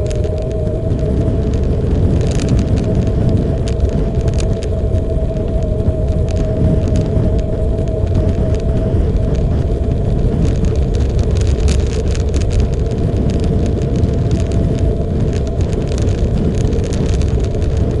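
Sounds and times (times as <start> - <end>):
motorcycle engine rumble: 0.0 - 18.0
wind rush: 0.0 - 18.0.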